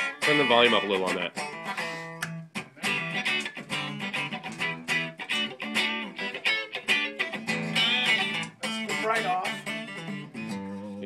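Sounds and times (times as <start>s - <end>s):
electric guitar through amplifier: 0.0s - 11.0s.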